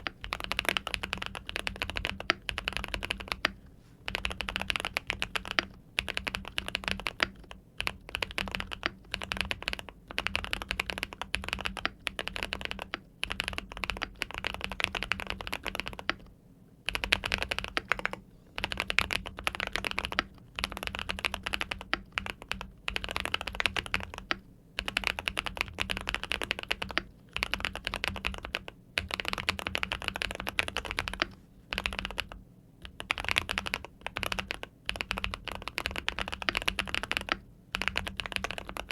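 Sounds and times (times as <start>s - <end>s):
mechanical keyboard typing: 0.0s - 16.3s, 16.9s - 38.9s.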